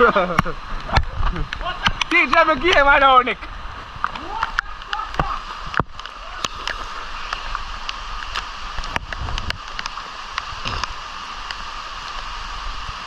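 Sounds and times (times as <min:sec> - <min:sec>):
river water rushing: 0:00.0 - 0:13.0
water drips and splashes: 0:00.0 - 0:13.0.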